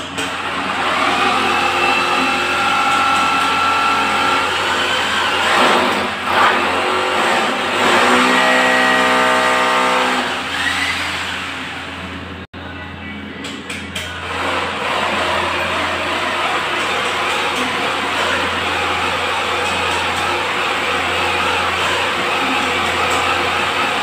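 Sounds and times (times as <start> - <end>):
power drill motor running: 0.3 - 11.7, 14.2 - 24.0.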